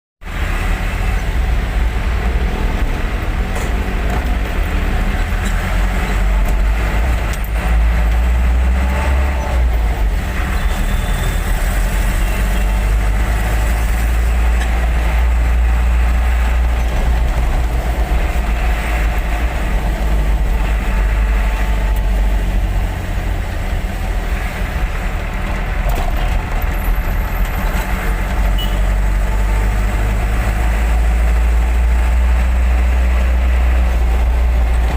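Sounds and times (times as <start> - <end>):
road noise: 0.2 - 34.9
truck engine rumbling: 0.2 - 34.9.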